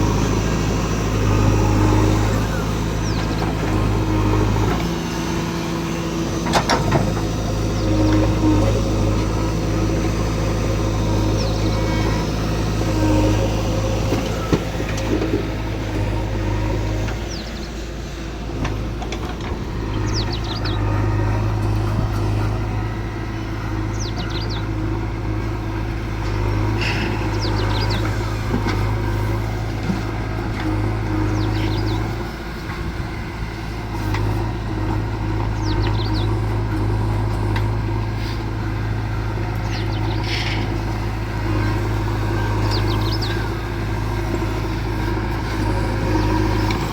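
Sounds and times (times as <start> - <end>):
birds chirping: 0.0 - 46.9
heavy diesel engine running: 0.0 - 46.9.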